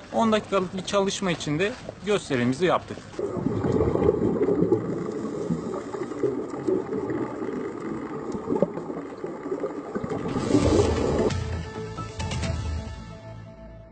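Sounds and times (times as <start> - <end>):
gurgling underwater noise: 0.0 - 11.5.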